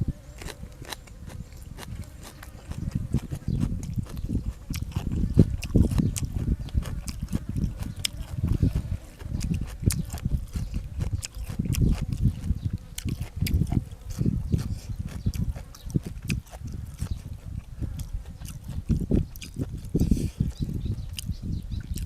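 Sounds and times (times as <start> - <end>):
person chewing food: 0.3 - 22.0.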